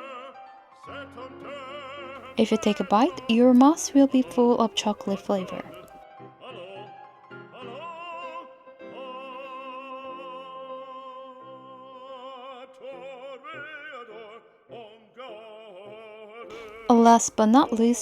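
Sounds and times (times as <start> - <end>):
operatic singing: 0.0 - 6.9, 7.5 - 18.0.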